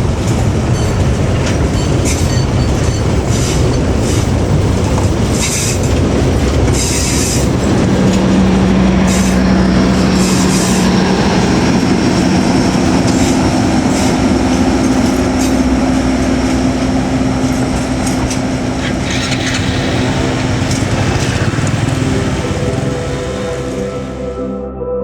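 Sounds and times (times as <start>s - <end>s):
rumble of wheels on rail: 0.0s - 24.4s
locomotive engine hum: 0.0s - 24.5s.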